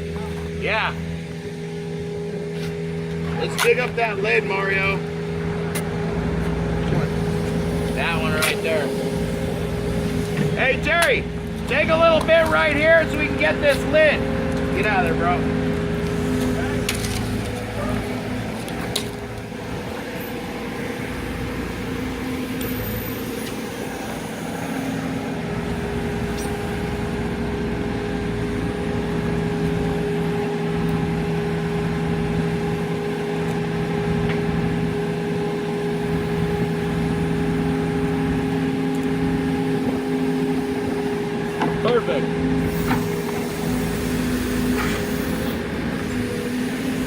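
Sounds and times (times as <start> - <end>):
heavy diesel machinery droning: 0.0 - 47.0.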